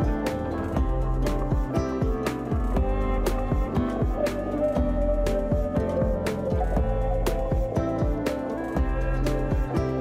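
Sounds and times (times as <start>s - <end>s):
guitar-led tune over a beat: 0.0s - 10.0s.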